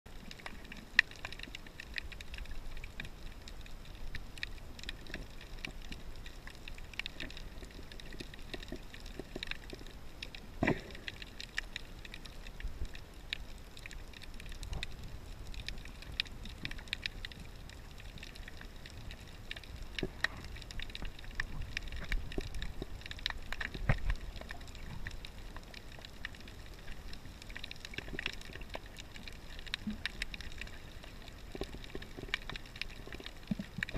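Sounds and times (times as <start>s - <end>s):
faint clicks and crackles: 0.1s - 33.9s
muffled rumble of moving water: 0.1s - 33.9s.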